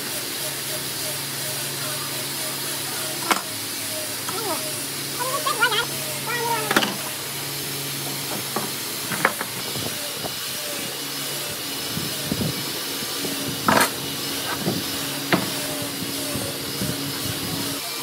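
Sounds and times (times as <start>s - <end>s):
workshop machinery hissing and humming: 0.0s - 18.0s.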